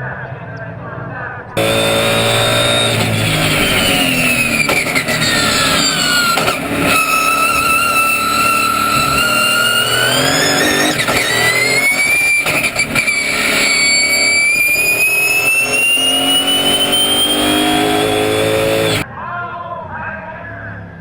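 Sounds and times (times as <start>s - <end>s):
race car engine accelerating: 1.6s - 19.0s.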